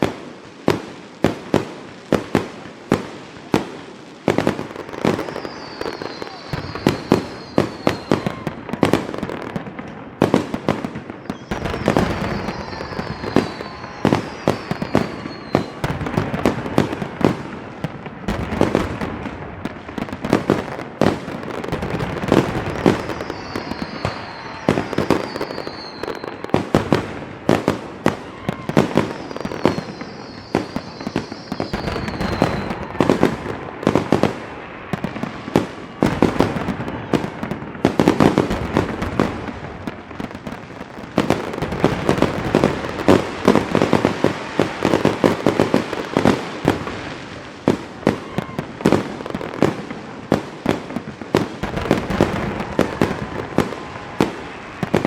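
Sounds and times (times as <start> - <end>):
fireworks bangs and crackling: 0.0 - 55.0
falling firework whistles: 4.3 - 19.3, 19.9 - 49.8, 50.4 - 55.0.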